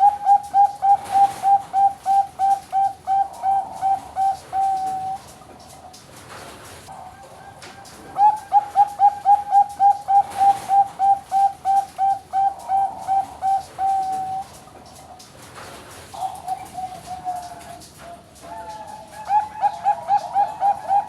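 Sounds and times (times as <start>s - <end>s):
dove cooing: 0.0s - 6.0s, 6.9s - 15.2s, 16.1s - 21.0s.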